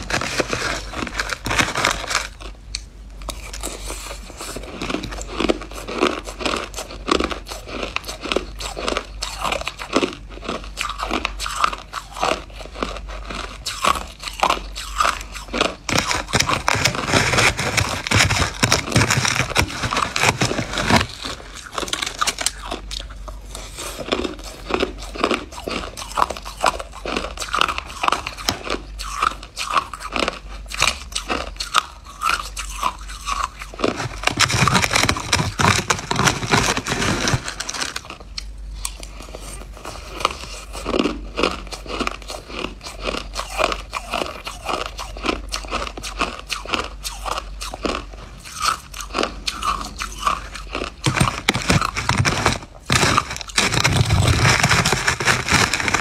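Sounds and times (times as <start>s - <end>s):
person chewing crushed ice: 0.0s - 56.0s.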